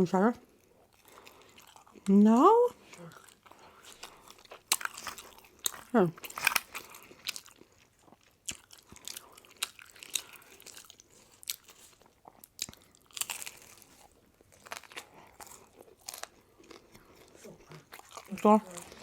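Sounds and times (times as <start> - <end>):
wet chewing with crunches: 0.4 - 19.0.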